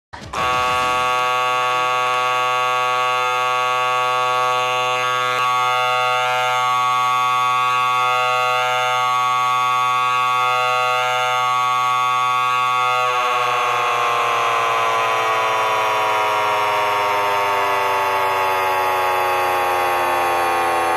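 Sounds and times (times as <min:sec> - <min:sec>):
harsh electronic buzzing tone: 0:00.2 - 0:20.9.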